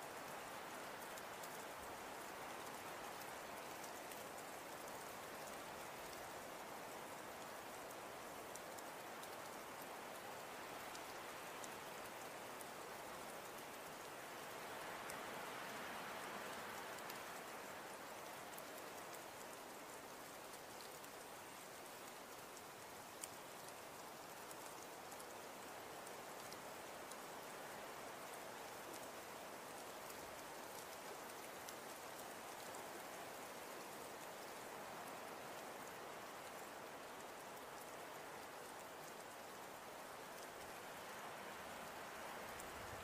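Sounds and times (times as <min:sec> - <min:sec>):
faint ticks of sleet: 0:00.0 - 0:43.0.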